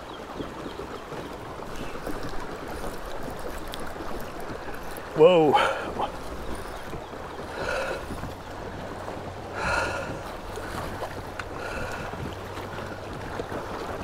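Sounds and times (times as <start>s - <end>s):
stream water running: 0.0s - 14.0s
fish thrashing and splashing: 1.5s - 14.0s.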